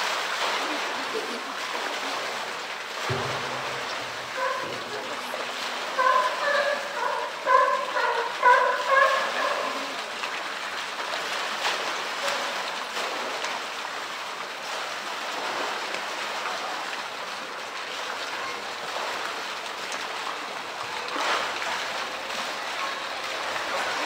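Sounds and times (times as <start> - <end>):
light splashes of animal: 0.0 - 24.0
water jet pouring into pool: 0.0 - 24.0.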